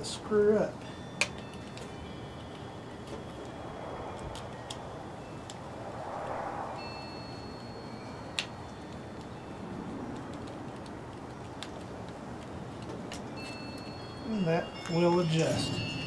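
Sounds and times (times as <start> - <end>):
low steady background noise: 0.0 - 16.0.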